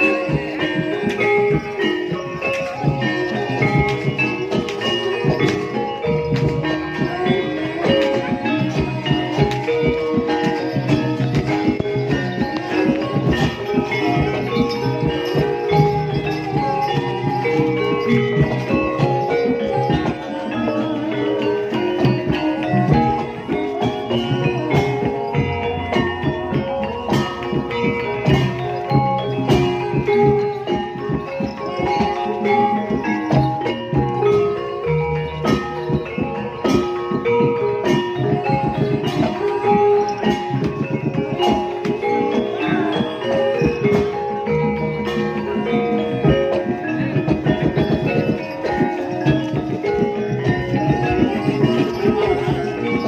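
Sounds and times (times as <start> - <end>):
drum strokes: 0.0 - 53.0
struck keyed instruments melody: 0.0 - 53.0.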